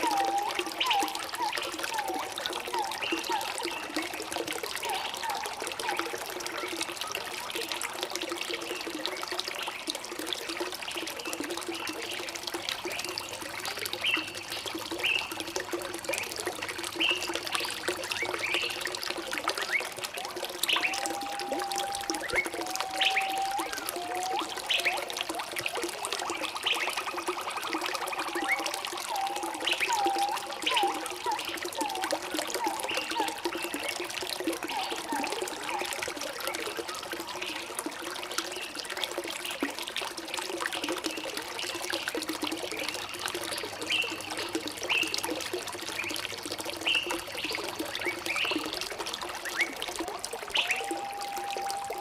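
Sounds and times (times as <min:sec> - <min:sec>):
water trickling and gurgling: 0:00.0 - 0:52.0.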